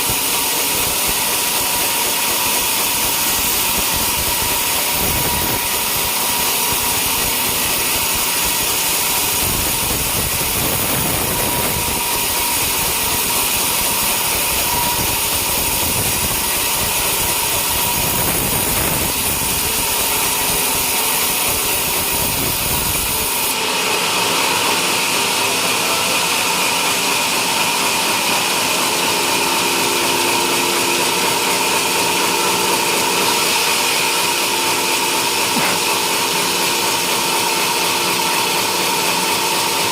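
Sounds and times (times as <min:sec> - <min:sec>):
sawmill blade sawing wood: 0:00.0 - 0:39.9.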